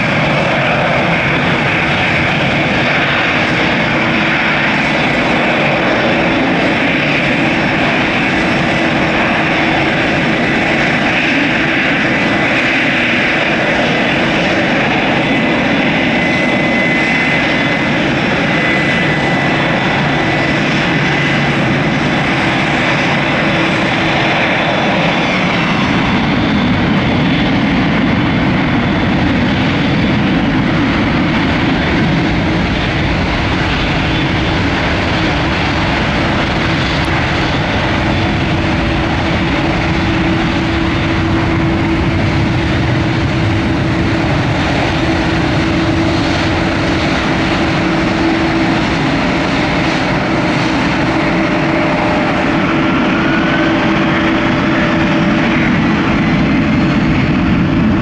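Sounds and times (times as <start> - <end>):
jet engine rumble: 0.0 - 58.0
jet turbofan whine: 0.0 - 58.0.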